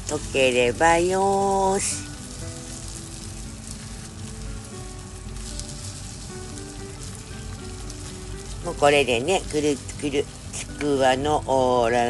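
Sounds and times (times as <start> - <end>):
food sizzling in a frying pan: 0.0 - 12.0
quiet background music: 0.0 - 12.0.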